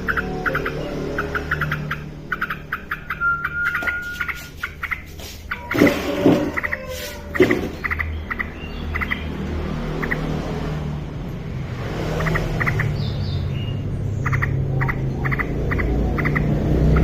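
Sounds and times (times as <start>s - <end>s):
bird chirping calls: 0.0s - 10.7s, 12.0s - 17.0s.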